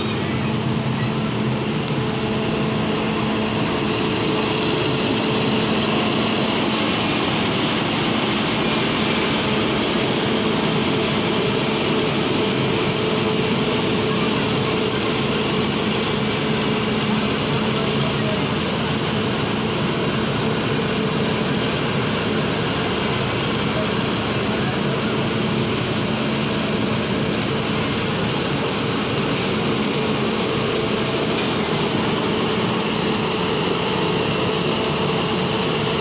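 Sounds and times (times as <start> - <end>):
heavy machinery engine drone: 0.0 - 36.0.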